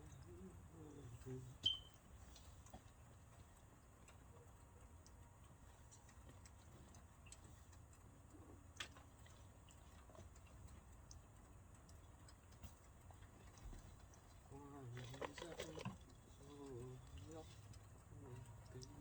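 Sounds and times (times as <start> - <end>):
faint ticks: 0.0 - 19.0.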